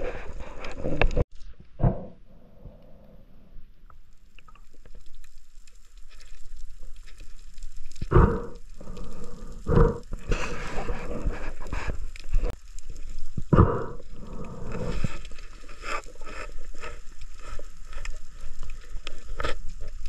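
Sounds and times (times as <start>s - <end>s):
water noise: 0.0s - 20.0s.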